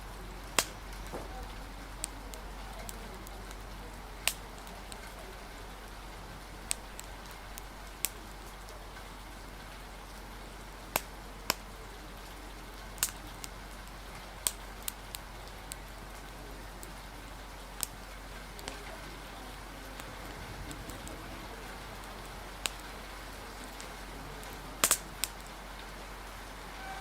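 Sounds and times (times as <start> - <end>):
rain hiss: 0.0 - 27.0
wood fire crackling: 0.0 - 27.0.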